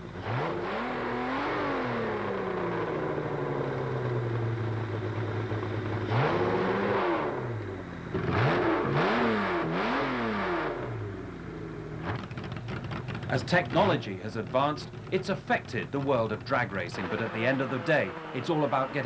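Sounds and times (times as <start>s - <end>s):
drag racing engine idling and revving: 0.0s - 19.0s.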